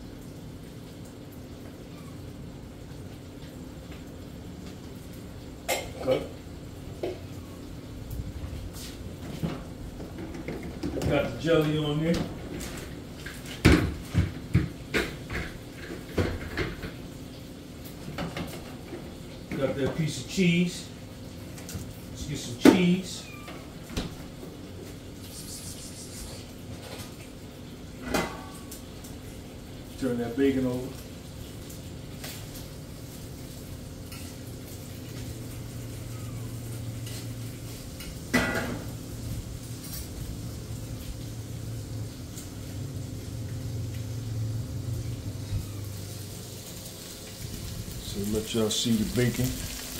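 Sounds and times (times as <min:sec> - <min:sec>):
bacon frying in a pan: 0:00.0 - 0:49.9.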